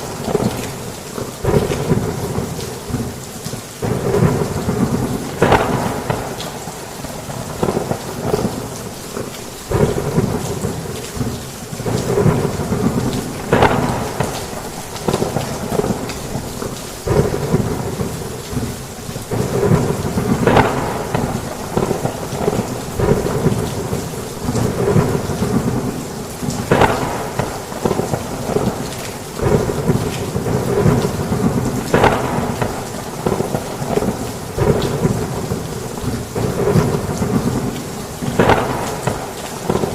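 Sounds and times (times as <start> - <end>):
rolling thunder: 0.0 - 3.2, 3.8 - 39.9
heavy rain falling: 0.0 - 39.9.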